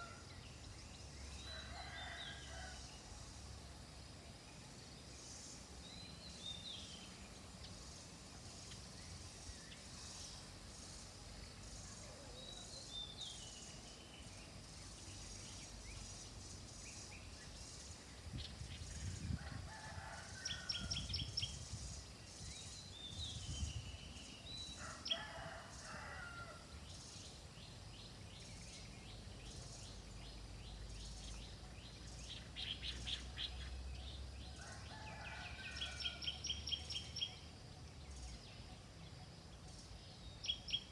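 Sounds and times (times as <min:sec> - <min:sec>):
high background hiss: 0:00.0 - 0:40.9.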